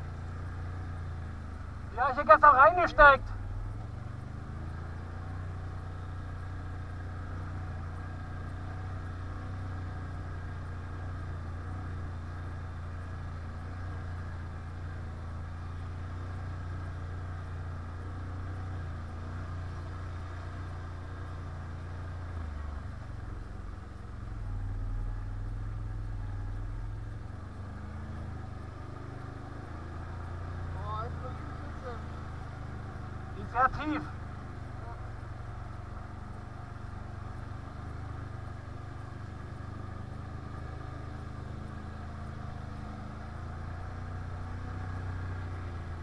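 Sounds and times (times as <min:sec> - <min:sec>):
quad engine running: 0:00.0 - 0:46.0.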